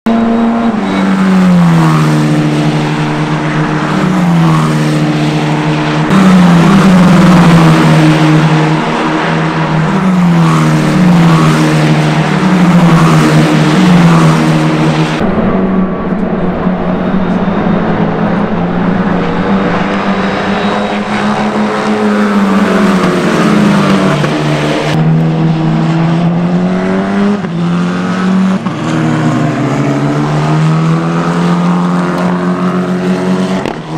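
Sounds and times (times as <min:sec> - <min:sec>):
race car engines downshifting: 0:00.1 - 0:33.9.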